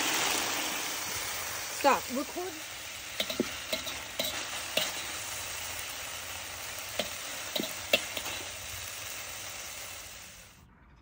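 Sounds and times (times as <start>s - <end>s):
food sizzling in a wok: 0.0s - 10.6s.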